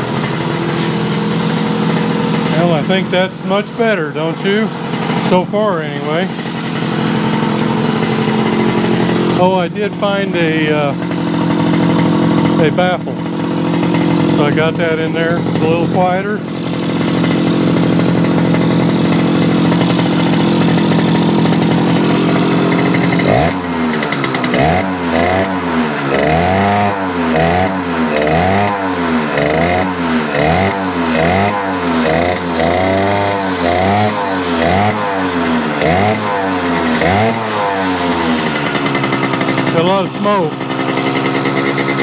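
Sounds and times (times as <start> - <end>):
two-stroke motorcycle engine revving: 0.0 - 42.0.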